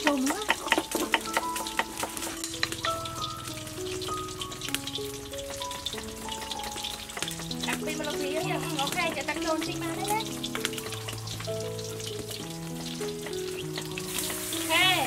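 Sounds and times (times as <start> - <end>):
food sizzling in a pan: 0.0 - 15.0
slow background music: 0.0 - 15.0.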